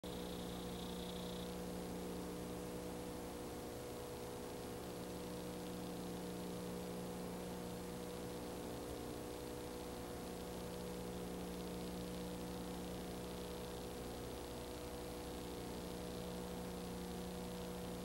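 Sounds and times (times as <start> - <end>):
electrical hum with hiss: 0.0 - 18.0
faint high whine: 0.0 - 18.0.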